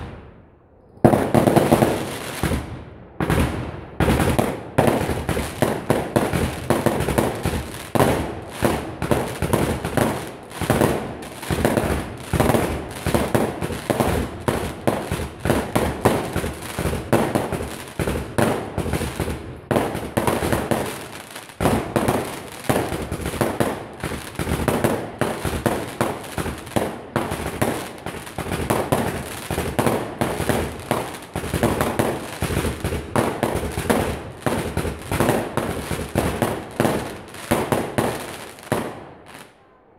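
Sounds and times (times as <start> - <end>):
loud firework cracks: 1.0 - 39.6.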